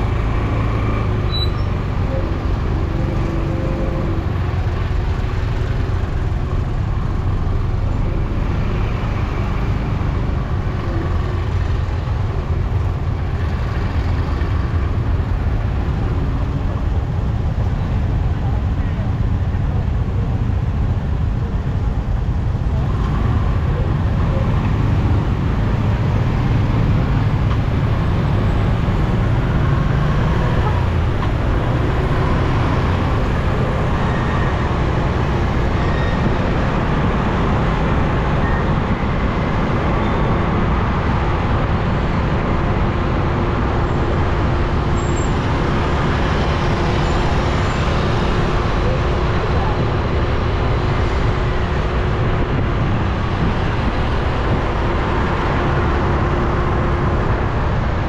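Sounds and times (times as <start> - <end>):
motorbike and car engines: 0.0 - 58.0.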